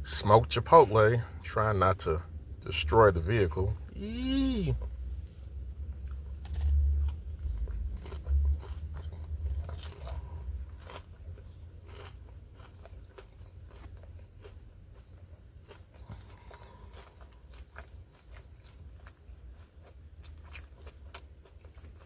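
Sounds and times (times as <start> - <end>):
person chewing crunchy food: 3.9 - 22.0.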